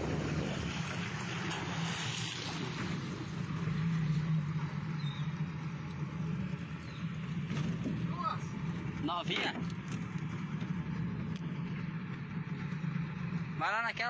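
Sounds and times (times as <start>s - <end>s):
hiss of water and wind: 0.0s - 13.6s
outboard motor humming: 0.0s - 14.0s.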